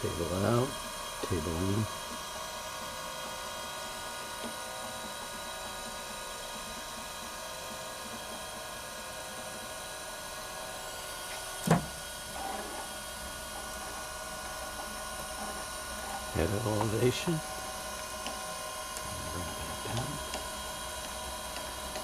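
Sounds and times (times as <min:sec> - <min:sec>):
grinder motor humming: 0:00.0 - 0:22.0.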